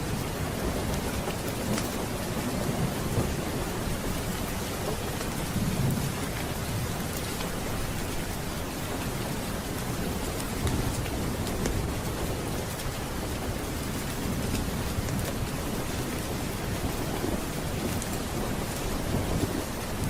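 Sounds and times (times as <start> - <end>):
low rolling thunder: 0.0 - 20.0
steady rain: 0.0 - 20.0.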